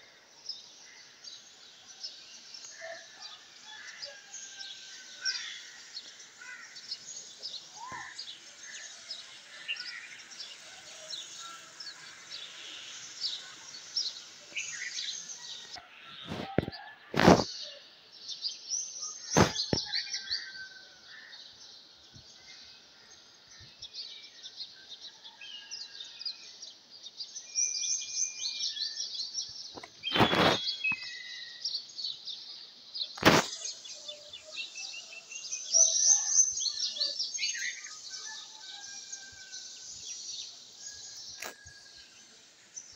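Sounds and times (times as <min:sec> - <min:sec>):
birds chirping and twittering: 0:00.0 - 0:42.9.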